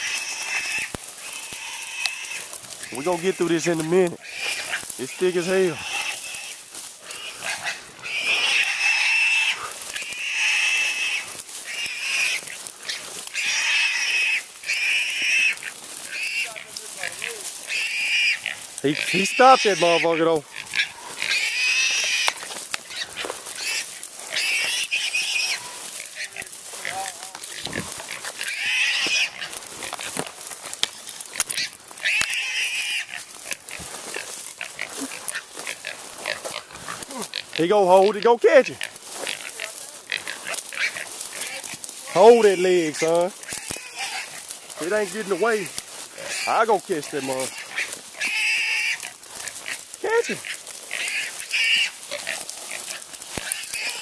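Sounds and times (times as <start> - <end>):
brush crackling: 0.0 - 54.0
hog squealing: 0.0 - 54.0.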